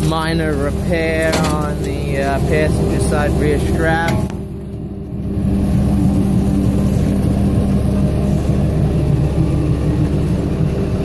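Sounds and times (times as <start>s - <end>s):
spreader conveyor turning: 0.0s - 11.0s
truck engine humming: 0.0s - 11.0s.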